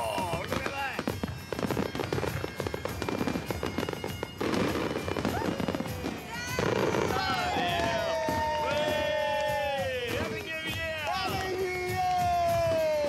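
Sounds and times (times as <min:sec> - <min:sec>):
fireworks crackling bangs: 0:00.0 - 0:13.0.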